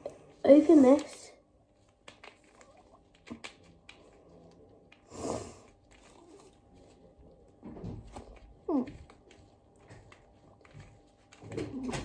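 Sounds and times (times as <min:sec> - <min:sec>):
hands fiddling with packet: 0:00.4 - 0:05.0, 0:05.7 - 0:12.0.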